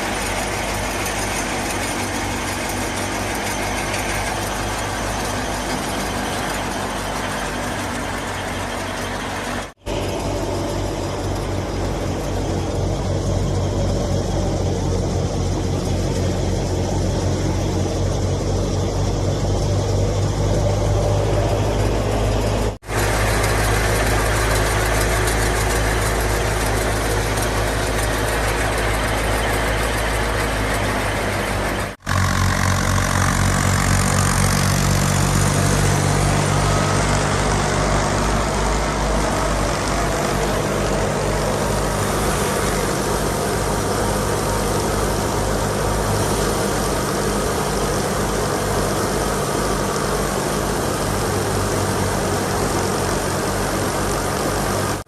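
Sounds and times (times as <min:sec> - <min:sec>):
diesel tractor engine running: 0:00.0 - 0:55.0
wheat thresher noise: 0:00.0 - 0:55.0.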